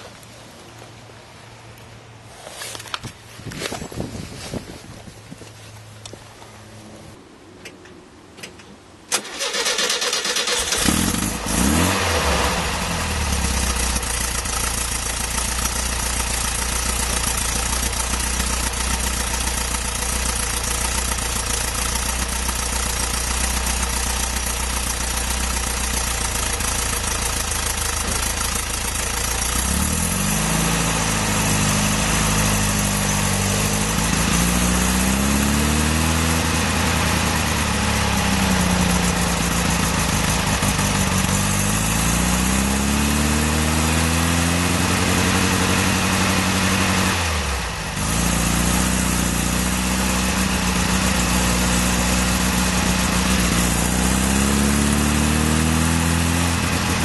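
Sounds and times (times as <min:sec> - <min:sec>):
van engine idling and revving: 0:09.2 - 0:57.0.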